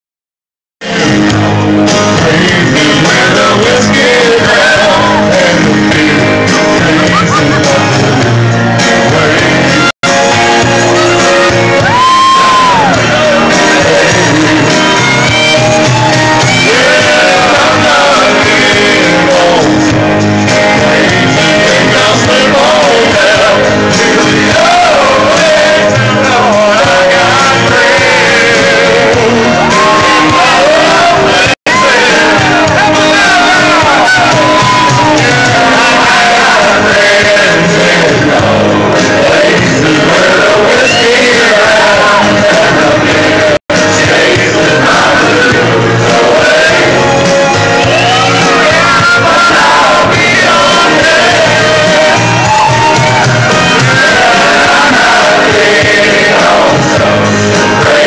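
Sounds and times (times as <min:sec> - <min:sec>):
karaoke backing track over loudspeakers: 0:00.8 - 0:58.0
men singing and shouting: 0:00.8 - 0:58.0.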